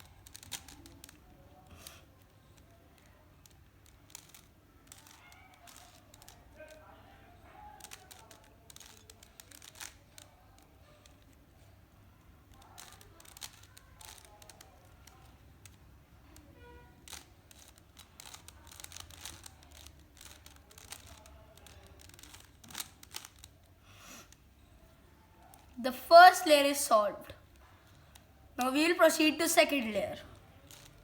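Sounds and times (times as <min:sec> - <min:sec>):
puzzle cube clicking and rattling: 0:00.0 - 0:07.0, 0:07.7 - 0:11.7, 0:12.4 - 0:16.2, 0:17.0 - 0:24.4, 0:27.9 - 0:31.0.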